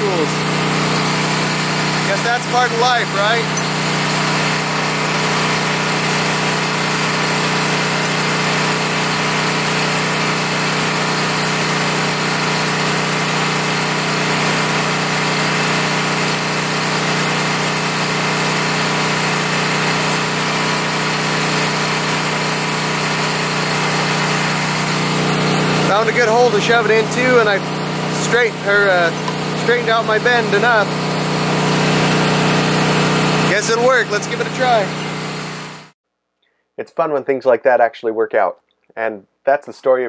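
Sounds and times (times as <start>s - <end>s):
generator engine running: 0.0s - 36.0s.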